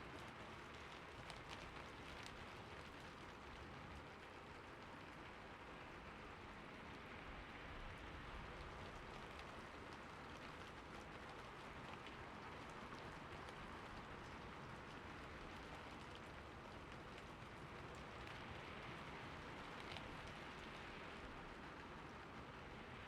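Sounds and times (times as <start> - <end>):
faint raindrop ticks: 0.0 - 23.0
soft steady rain: 0.0 - 23.0.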